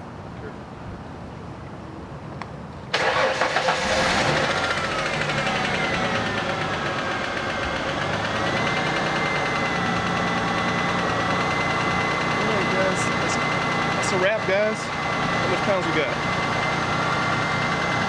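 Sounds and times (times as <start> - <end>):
car engine starting and running: 2.9 - 18.0
engine ticking: 3.0 - 18.0.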